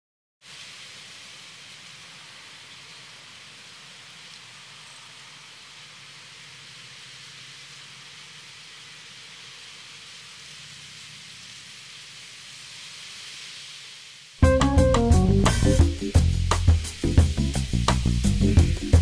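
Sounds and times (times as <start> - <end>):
breeze through trees and grass: 0.4 - 19.0.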